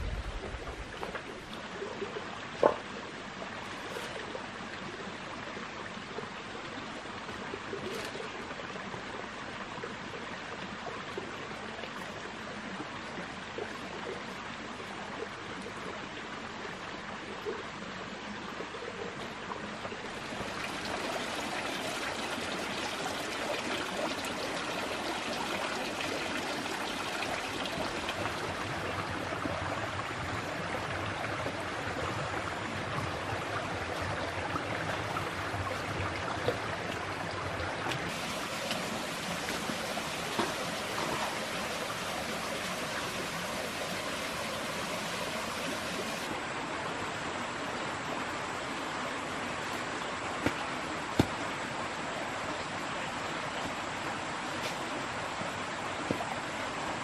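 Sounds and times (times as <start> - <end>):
stream water running and trickling: 0.0 - 57.0.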